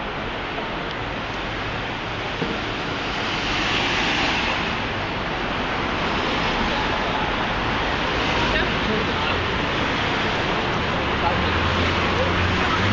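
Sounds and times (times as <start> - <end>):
city street traffic: 0.0 - 12.9
vehicle passing: 1.7 - 12.9.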